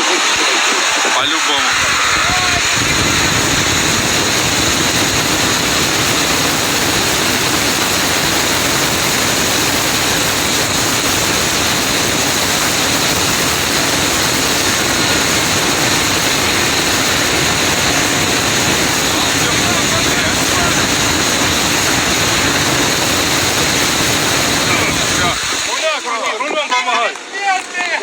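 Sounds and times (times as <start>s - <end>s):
car driving roar: 0.0s - 25.7s.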